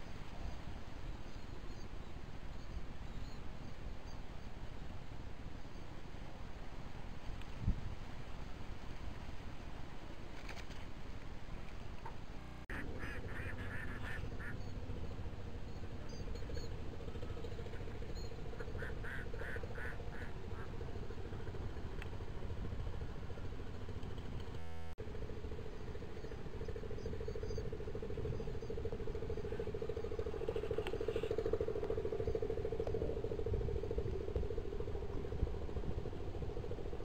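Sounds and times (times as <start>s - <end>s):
distant small engine drone: 0.0s - 37.0s.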